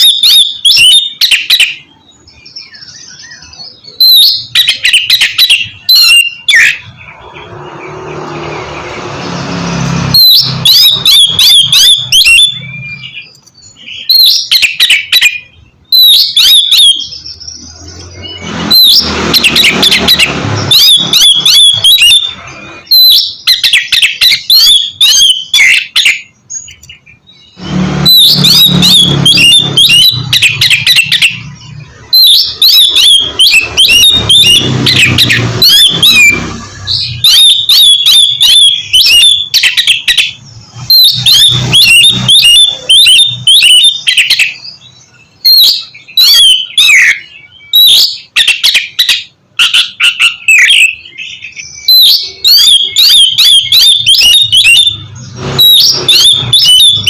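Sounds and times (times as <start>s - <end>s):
bird singing whistled phrases: 0.0s - 7.0s, 10.2s - 57.0s.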